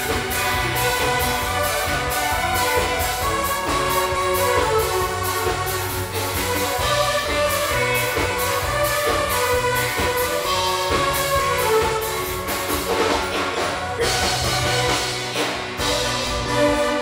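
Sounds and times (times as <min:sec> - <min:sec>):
live band dance music: 0:00.0 - 0:17.0.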